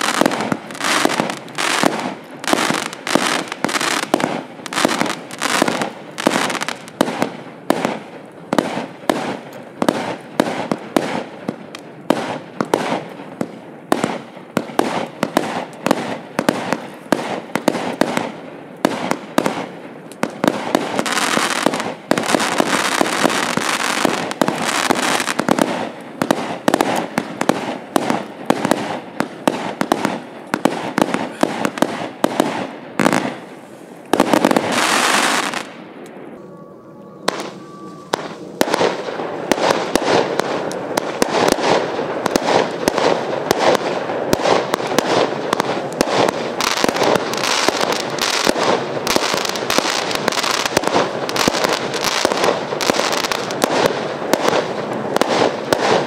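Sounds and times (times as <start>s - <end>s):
dense firework crackle: 0.0s - 36.4s, 37.3s - 56.0s.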